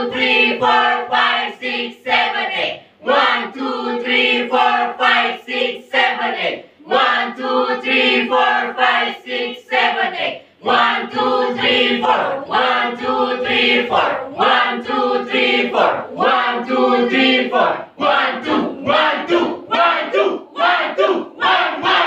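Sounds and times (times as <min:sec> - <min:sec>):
group singing cheer in unison: 0:00.0 - 0:22.0.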